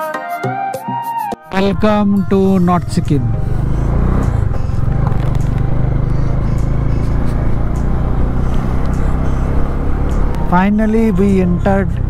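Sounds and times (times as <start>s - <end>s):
road and wind noise: 1.5s - 12.0s
motorcycle engine running: 1.7s - 12.0s.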